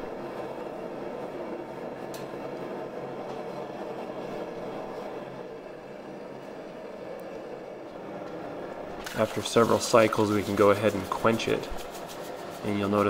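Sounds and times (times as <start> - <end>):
forge droning: 0.0 - 13.0.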